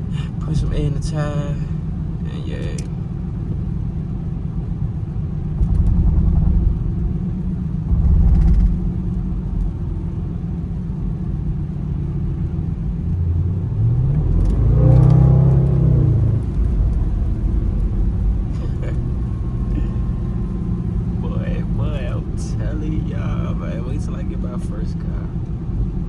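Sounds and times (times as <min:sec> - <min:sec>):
car engine rumble inside cabin: 0:00.0 - 0:26.0.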